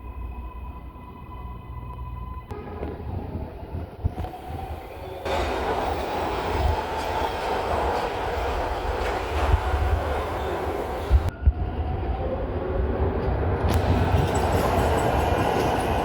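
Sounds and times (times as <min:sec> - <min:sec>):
train rolling past: 0:02.5 - 0:16.0.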